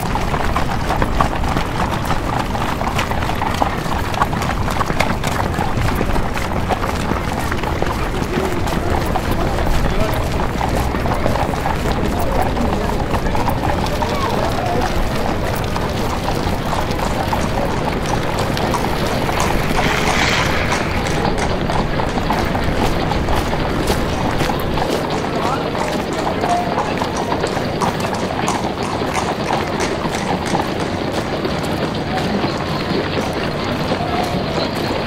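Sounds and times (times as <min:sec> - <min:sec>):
horse hooves clip-clopping: 0:00.0 - 0:35.0
street bustle: 0:00.0 - 0:35.0.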